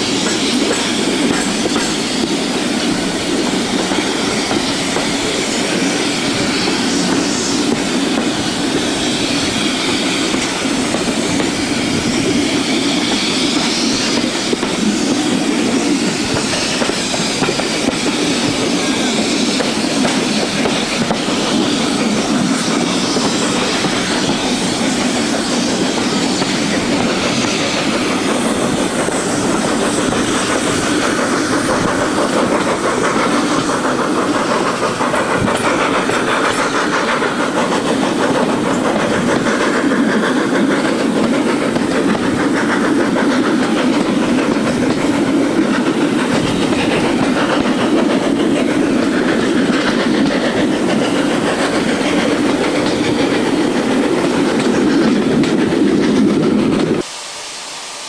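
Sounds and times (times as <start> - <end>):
train wheels clattering on track: 0.0 - 57.4
steam locomotive exhaust: 0.0 - 58.0.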